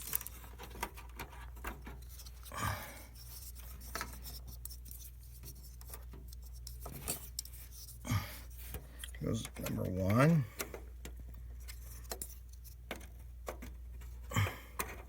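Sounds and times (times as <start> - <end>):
hands handling computer parts: 0.0 - 15.0.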